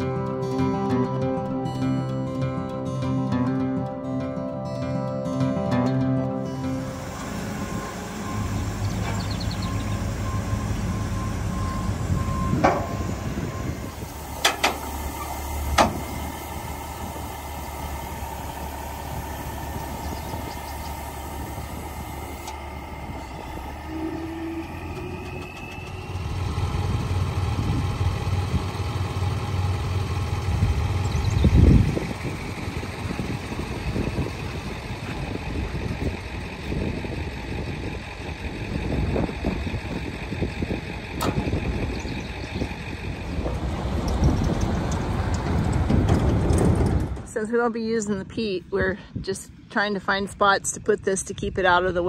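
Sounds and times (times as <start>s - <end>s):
diesel engine idling: 0.0s - 5.4s, 6.0s - 52.0s.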